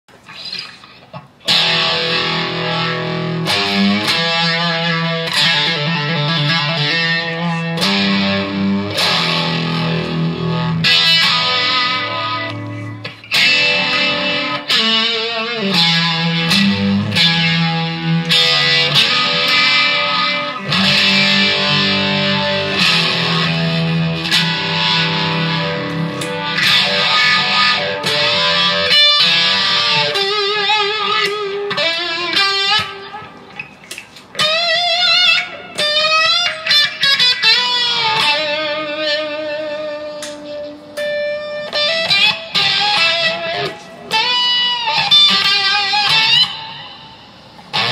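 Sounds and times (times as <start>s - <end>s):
electric guitar solo: 0.3s - 47.9s.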